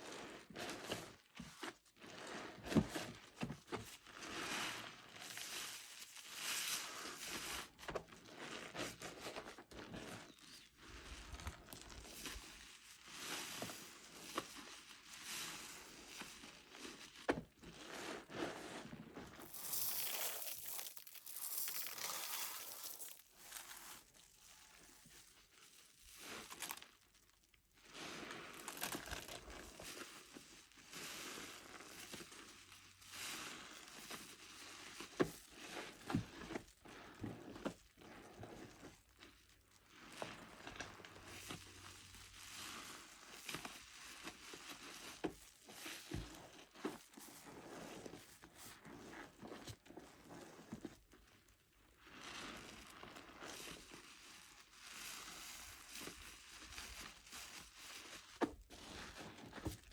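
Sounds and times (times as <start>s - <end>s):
wet sponge squishing: 6.3s - 32.4s, 33.1s - 59.9s.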